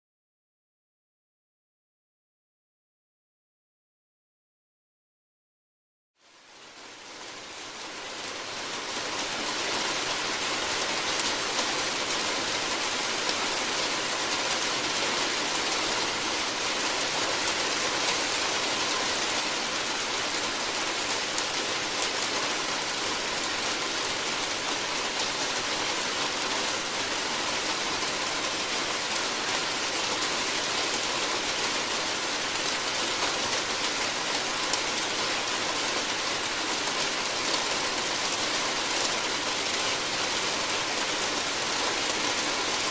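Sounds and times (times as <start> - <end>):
rain on a roof: 6.2 - 42.9.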